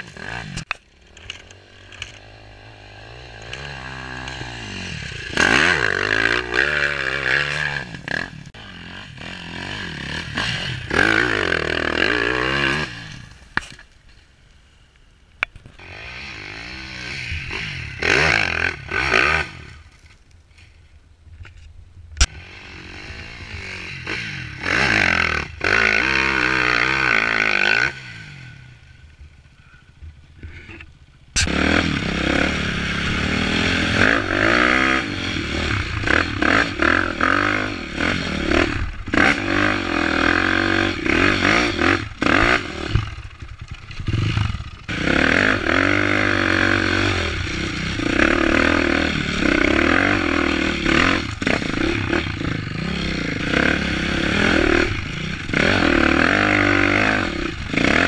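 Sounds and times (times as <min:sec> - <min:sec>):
motorcycle engine revving: 0:00.0 - 0:13.9, 0:15.7 - 0:20.0, 0:22.2 - 0:58.0.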